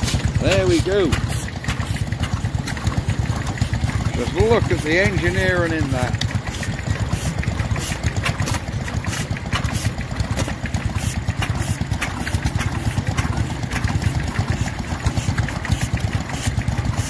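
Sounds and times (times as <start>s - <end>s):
engines chugging: 0.0s - 17.0s.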